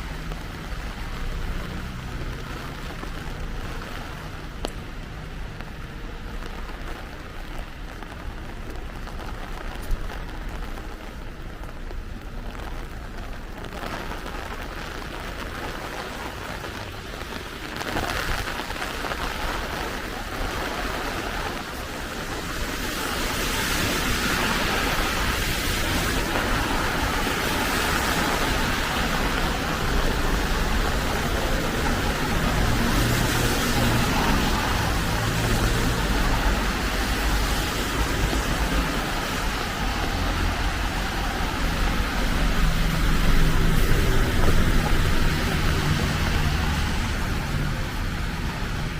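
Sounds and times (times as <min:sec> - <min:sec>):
heavy rain hissing: 0:00.0 - 0:48.9.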